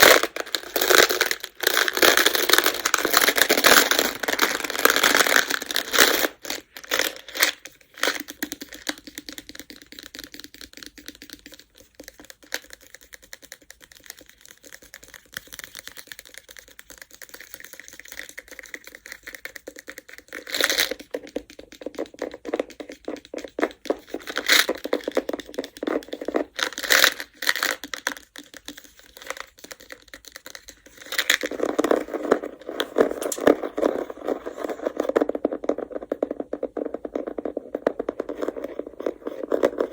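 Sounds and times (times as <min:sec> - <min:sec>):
go stones clicking and rattling: 0:00.0 - 0:39.9.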